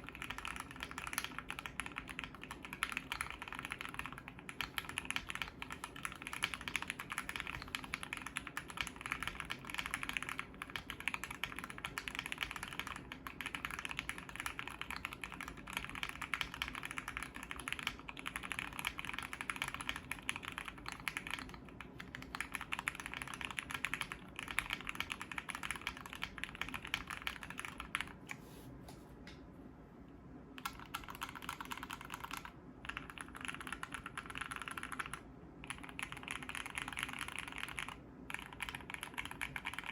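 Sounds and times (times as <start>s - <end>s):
typing on a keyboard: 0.0s - 28.3s, 30.6s - 39.9s.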